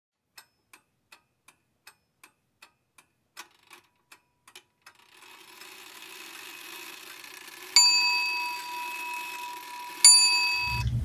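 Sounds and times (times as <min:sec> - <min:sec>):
clock ticking: 0:00.2 - 0:11.0.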